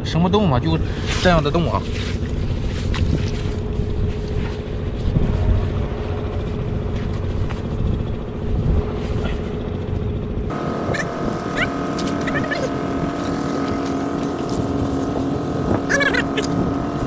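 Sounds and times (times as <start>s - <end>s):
motor hum: 0.4s - 17.0s
low rumble: 0.8s - 17.0s.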